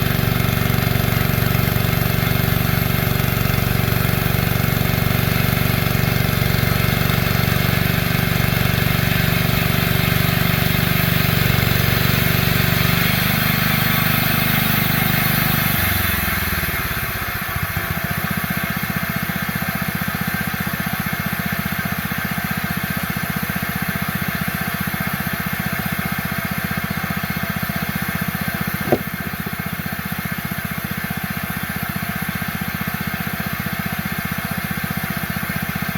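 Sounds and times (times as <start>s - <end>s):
small engine running: 0.0s - 35.9s.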